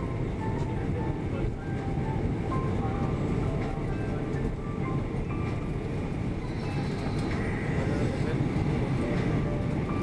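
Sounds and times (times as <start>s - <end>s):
deep rumble inside aircraft cabin: 0.0s - 10.0s.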